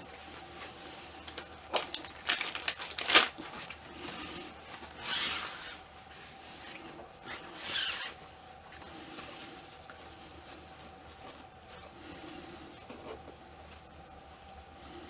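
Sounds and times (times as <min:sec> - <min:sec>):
doll clothes rustling: 0:00.0 - 0:14.8.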